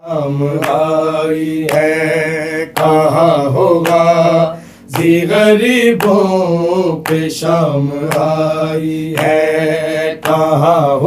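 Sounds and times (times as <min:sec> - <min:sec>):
men chanting together: 0:00.0 - 0:11.0
sharp beat keeping time: 0:00.5 - 0:11.0.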